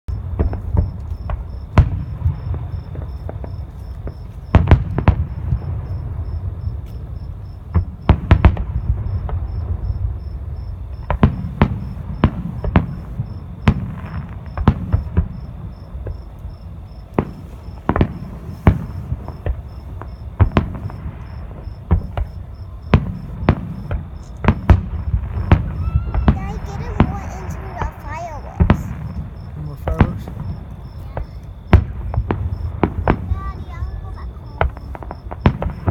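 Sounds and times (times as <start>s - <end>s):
fireworks bangs and pops: 0.1s - 35.9s.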